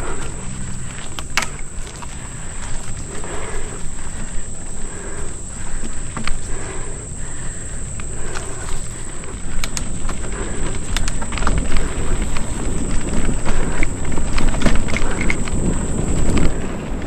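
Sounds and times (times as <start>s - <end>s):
high-pitched insect drone: 0.0s - 16.8s
mountain bike rattling on trail: 0.0s - 17.0s
wind buffeting microphone: 0.0s - 17.0s.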